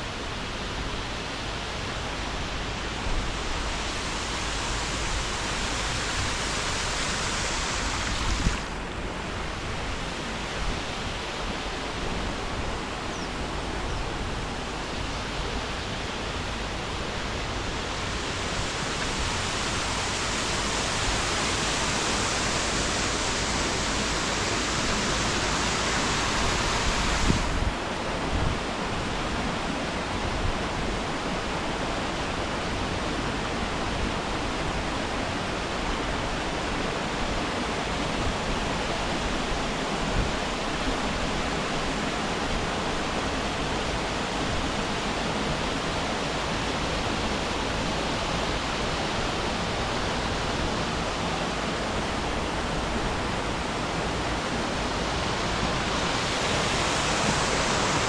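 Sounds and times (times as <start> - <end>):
waterfall rushing: 1.5 - 29.2, 31.5 - 58.0.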